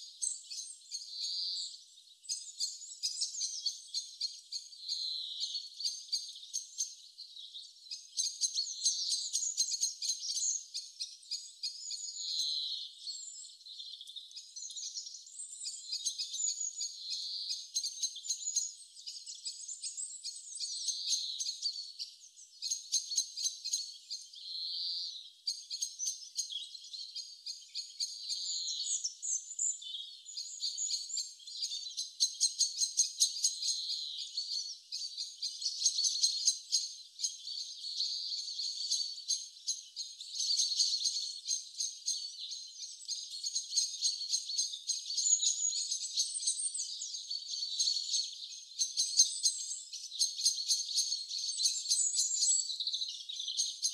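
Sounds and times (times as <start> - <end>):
small birds chirping and trilling: 0.0 - 53.9.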